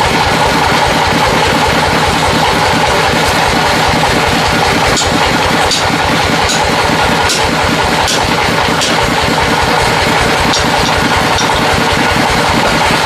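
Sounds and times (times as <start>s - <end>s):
engine running with low pulsing: 0.0s - 13.0s.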